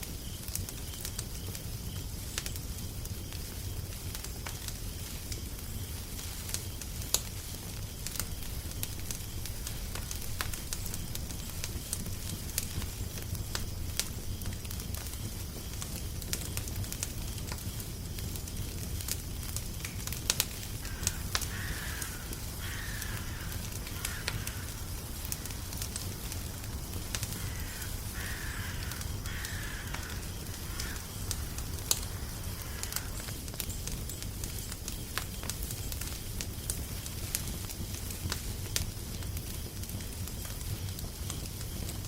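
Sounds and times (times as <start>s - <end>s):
fire crackling and popping: 0.0s - 42.0s.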